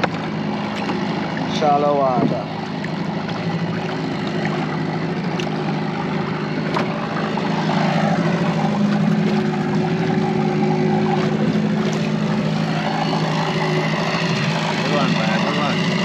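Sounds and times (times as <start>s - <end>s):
boat engine low hum: 0.0s - 16.0s.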